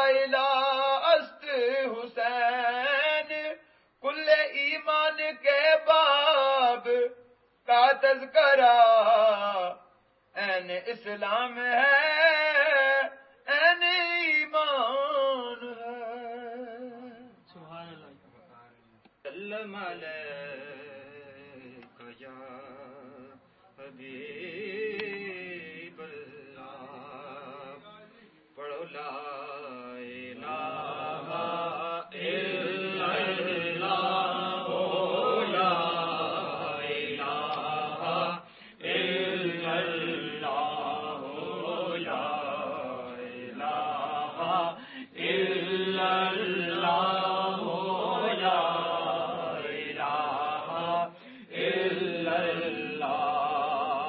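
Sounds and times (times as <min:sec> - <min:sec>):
men chanting devotional verses: 0:00.0 - 0:54.0.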